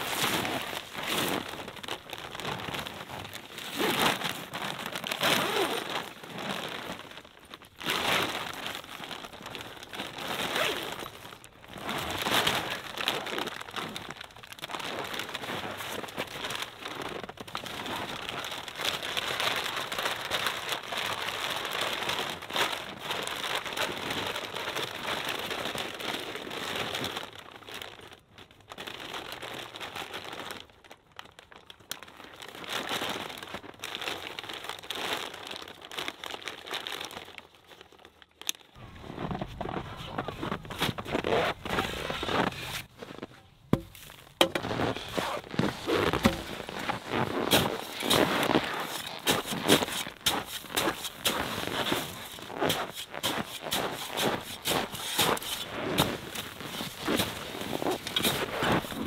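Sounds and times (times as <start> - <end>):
tent fabric rustling: 0.0 - 27.2, 38.5 - 59.0.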